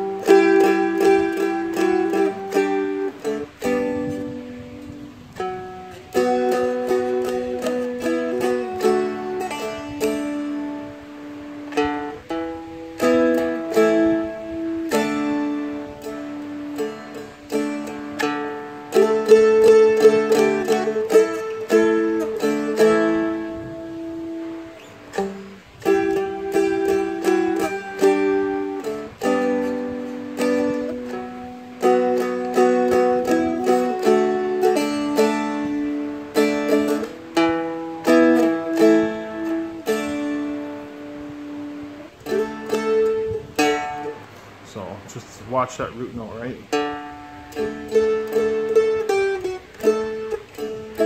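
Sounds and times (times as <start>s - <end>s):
dulcimer notes and chords: 0.0s - 44.2s.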